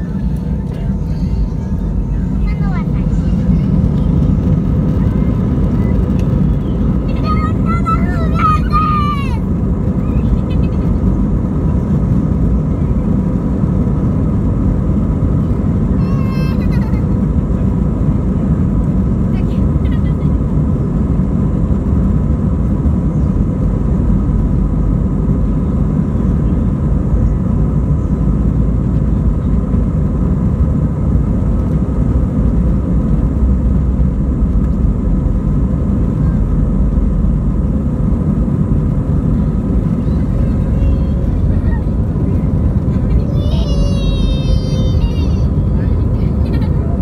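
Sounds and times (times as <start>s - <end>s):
faint engine whines: 0.0s - 47.0s
jet engines rumbling: 0.0s - 47.0s.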